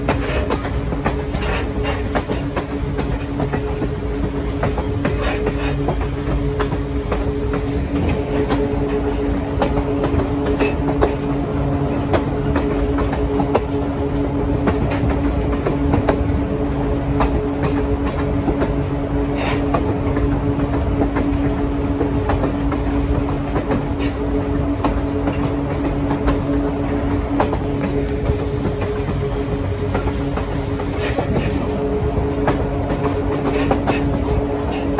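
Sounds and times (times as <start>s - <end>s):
diesel locomotive engine droning: 0.0s - 34.9s
train rumble: 0.0s - 34.9s
train wheels clicking over rail joints: 0.0s - 34.9s.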